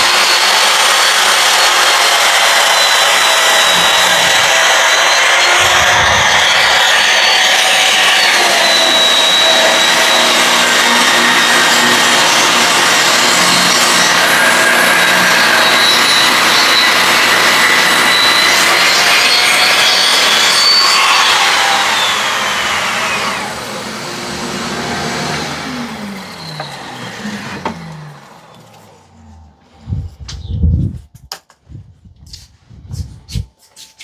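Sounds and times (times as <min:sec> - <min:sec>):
table saw ripping a board: 0:00.0 - 0:29.4
dust collector running: 0:00.0 - 0:30.1.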